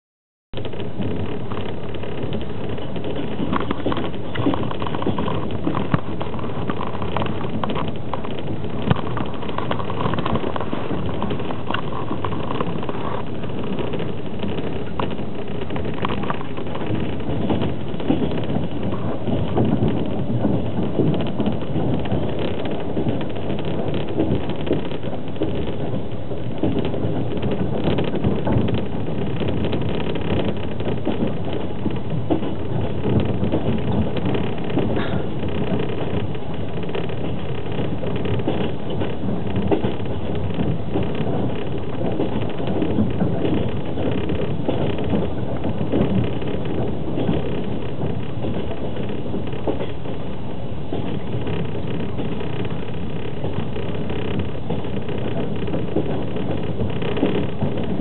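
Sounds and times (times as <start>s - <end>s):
train wheels rumbling on track: 0.6s - 58.0s.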